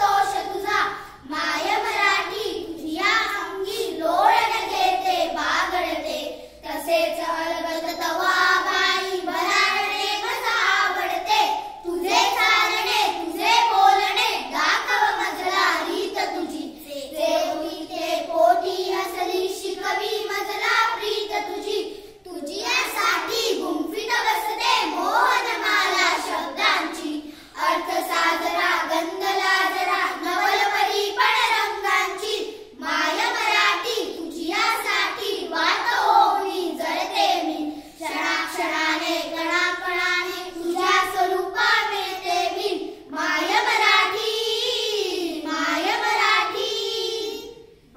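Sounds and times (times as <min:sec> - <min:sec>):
children singing in unison: 0:00.0 - 0:47.9.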